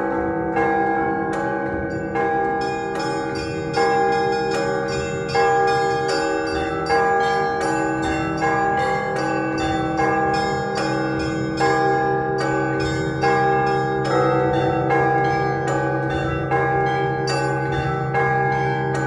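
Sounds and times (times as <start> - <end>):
hum of large bells: 0.0 - 19.0
smaller church bells ringing: 0.0 - 19.0.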